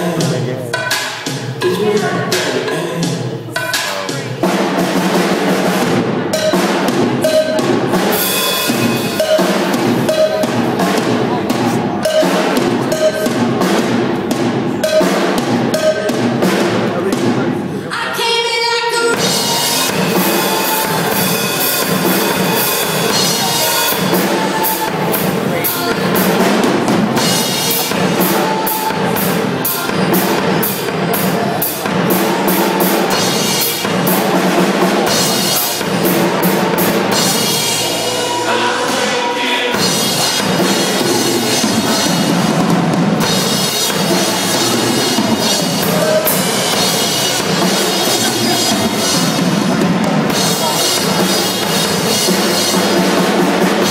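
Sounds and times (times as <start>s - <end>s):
drum kit playing: 0.0s - 53.9s.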